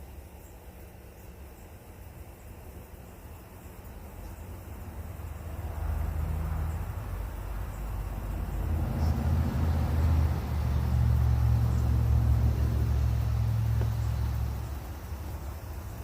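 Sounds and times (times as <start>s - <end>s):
low engine-like rumble: 0.1s - 16.0s.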